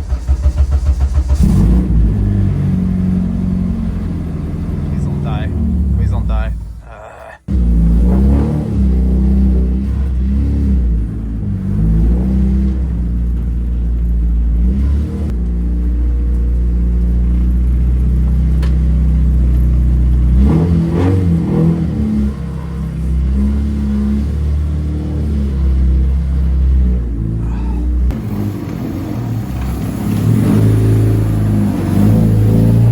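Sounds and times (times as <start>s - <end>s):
cold car engine revving: 0.0s - 32.9s.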